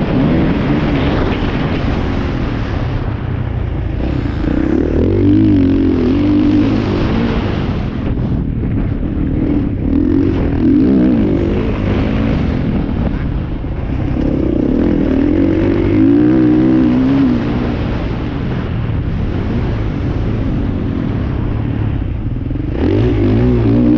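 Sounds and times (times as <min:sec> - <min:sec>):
dirt bike engines revving: 0:00.0 - 0:23.9.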